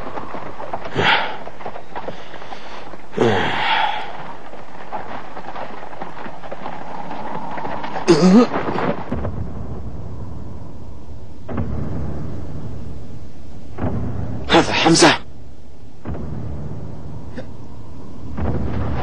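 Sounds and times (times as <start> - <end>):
deep low rumble: 0.0 - 14.5, 15.3 - 19.0.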